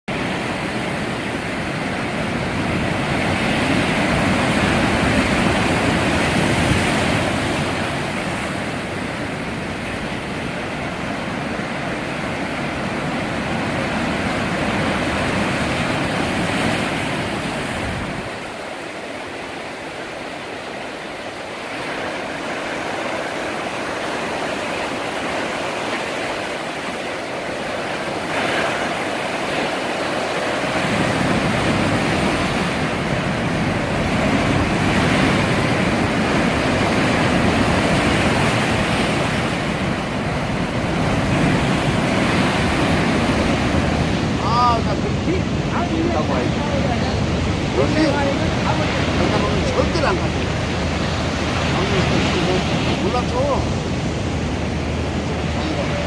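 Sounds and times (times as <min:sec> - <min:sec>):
sea waves breaking on beach: 0:00.1 - 0:56.0.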